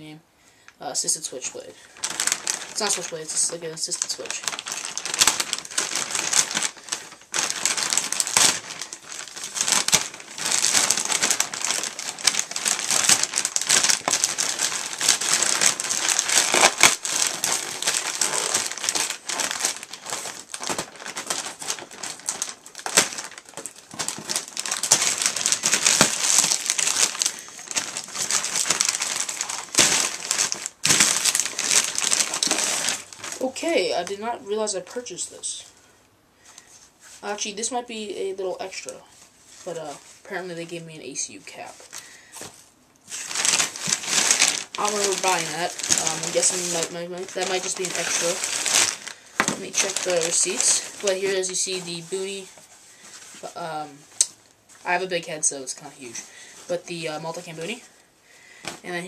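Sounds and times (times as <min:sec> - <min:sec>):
plastic mailer bag crinkling: 0:01.3 - 0:35.6, 0:36.5 - 0:59.0.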